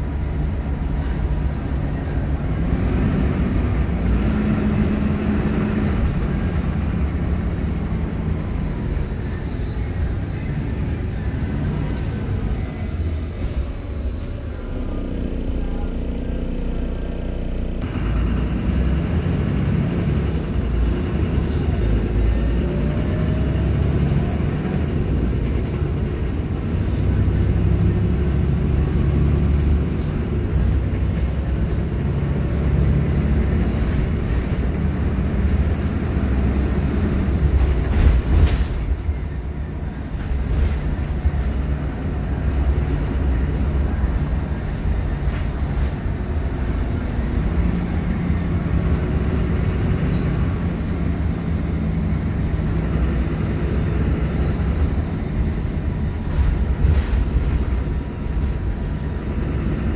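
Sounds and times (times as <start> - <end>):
bus diesel engine: 0.0 - 59.9
road noise: 0.0 - 59.9.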